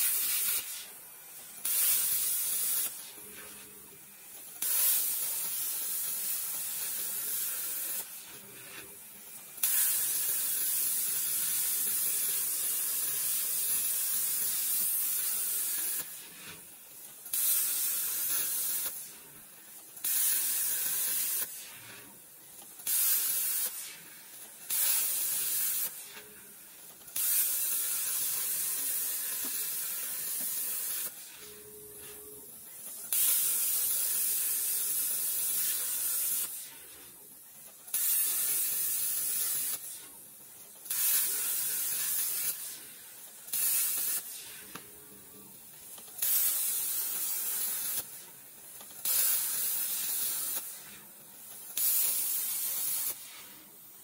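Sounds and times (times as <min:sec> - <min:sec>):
plasma torch hissing: 0:00.0 - 0:54.0.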